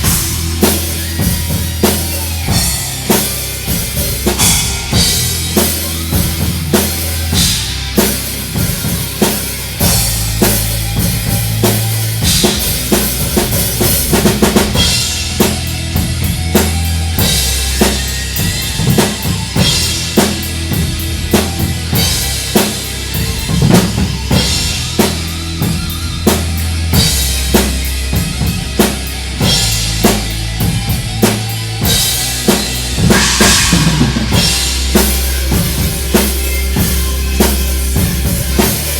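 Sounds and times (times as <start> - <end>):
heavy metal music: 0.0 - 38.9
sustained low bass notes: 0.0 - 38.9.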